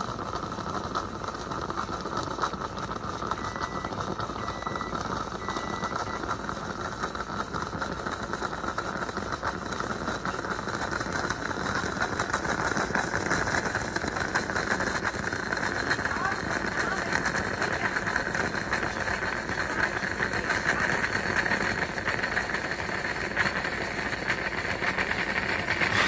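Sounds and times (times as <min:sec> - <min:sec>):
moka pot gurgling and sputtering: 0:00.0 - 0:26.0.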